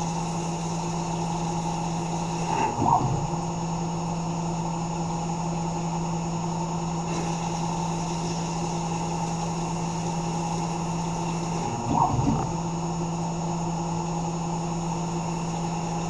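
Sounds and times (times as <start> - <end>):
cnc mill humming: 0.0 - 16.0.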